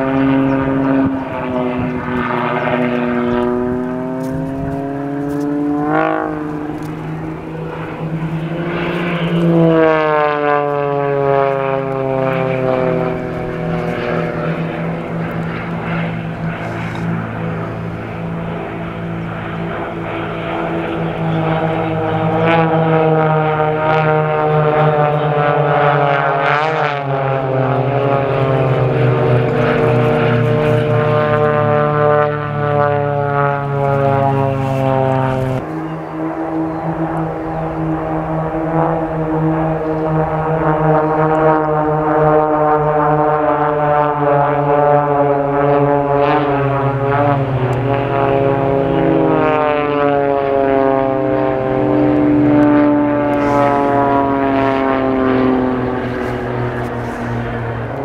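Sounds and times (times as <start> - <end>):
propeller planes droning overhead: 0.0 - 58.0.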